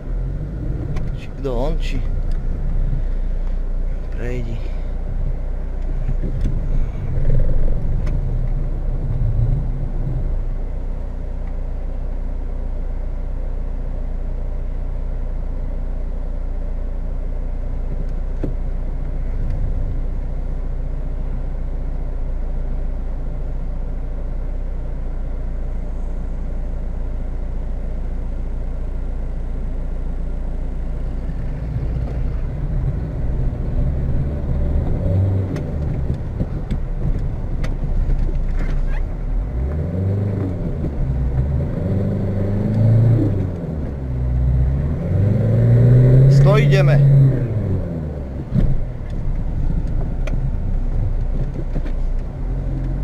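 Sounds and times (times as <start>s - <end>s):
diesel car engine idling and revving: 0.0s - 53.0s.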